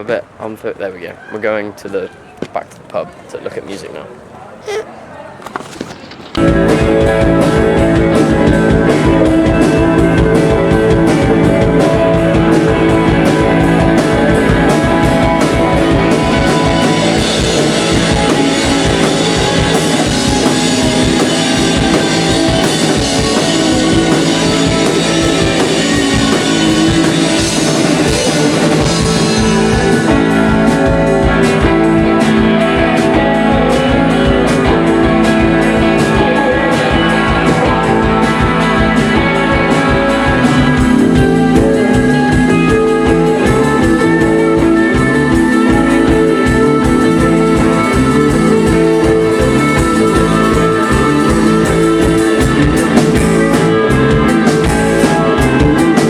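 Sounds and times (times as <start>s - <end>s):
drum hits: 6.4s - 56.0s
rock band playing live: 6.4s - 56.0s
sustained guitar chords: 6.4s - 56.0s.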